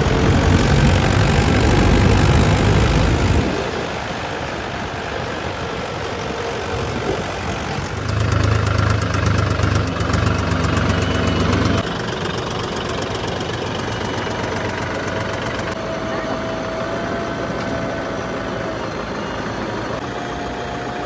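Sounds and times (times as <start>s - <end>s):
diesel engine idling with knocking: 0.0s - 21.0s.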